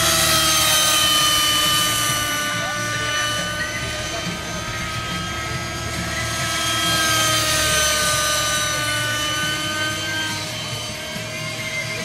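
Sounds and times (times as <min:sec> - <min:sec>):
model helicopter rotor whirring: 0:00.0 - 0:12.0.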